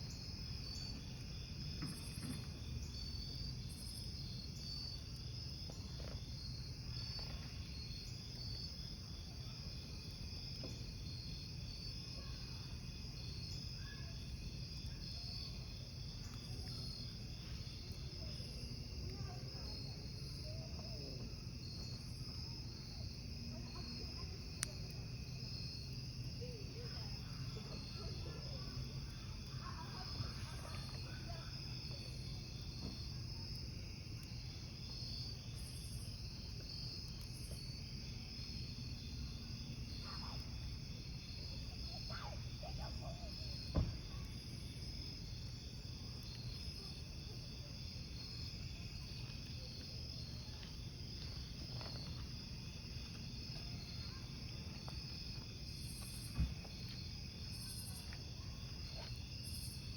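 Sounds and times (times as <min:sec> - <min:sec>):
campfire rumble: 0:00.0 - 0:59.9
crickets chirping: 0:00.0 - 0:59.9
burning wood crackling: 0:00.1 - 0:12.1, 0:12.7 - 0:42.7, 0:43.3 - 0:59.9.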